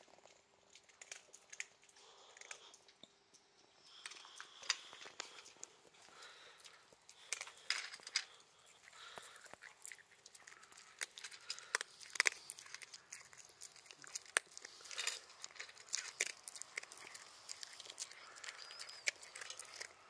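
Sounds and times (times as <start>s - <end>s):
dog crunching dry kibble: 0.0s - 2.8s, 3.9s - 20.0s.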